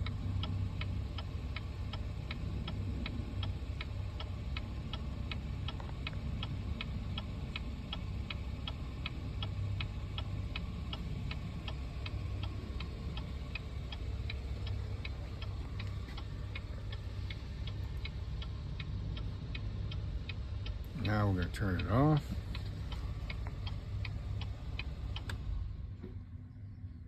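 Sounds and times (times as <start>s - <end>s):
car engine idling: 0.0s - 27.0s
sharp ticks: 0.4s - 25.5s.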